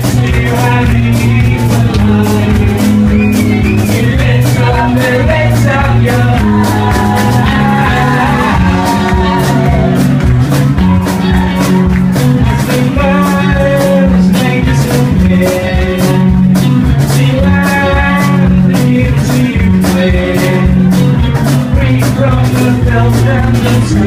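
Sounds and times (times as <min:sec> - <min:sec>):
instrumental rock music: 0:00.0 - 0:24.0.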